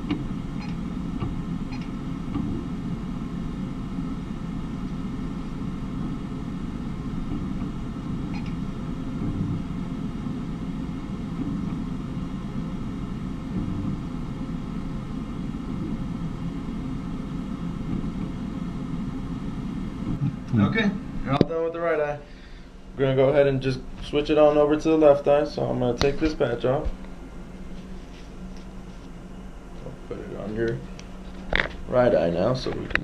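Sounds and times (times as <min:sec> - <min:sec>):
low rumbling machine hum: 0:00.0 - 0:33.0.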